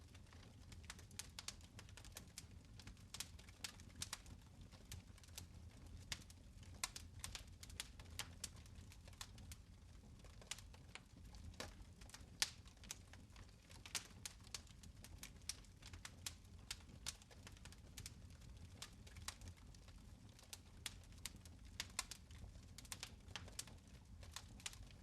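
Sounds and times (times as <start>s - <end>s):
fire crackling: 0.0s - 25.0s.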